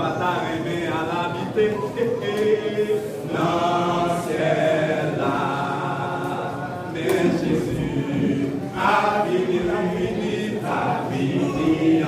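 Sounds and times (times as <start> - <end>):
male vocal group singing: 0.0 - 12.0.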